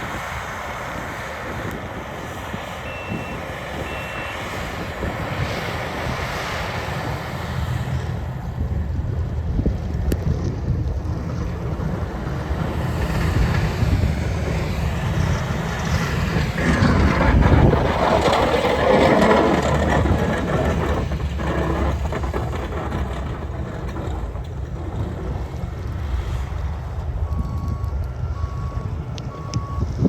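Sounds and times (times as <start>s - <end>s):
road vehicle passing: 0.0s - 30.0s
wind rumbling on microphone: 0.0s - 30.0s.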